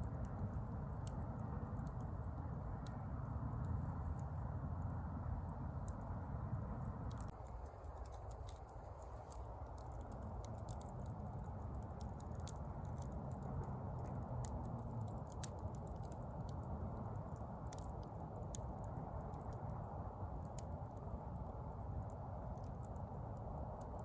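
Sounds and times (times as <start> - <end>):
embers crackling and popping: 0.0 - 24.0
steady low rumble: 0.0 - 24.0.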